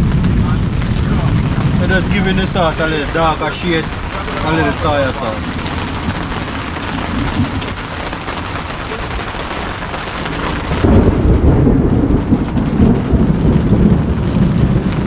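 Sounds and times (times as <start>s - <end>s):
low rumble: 0.0s - 15.0s
rain falling: 0.0s - 15.0s.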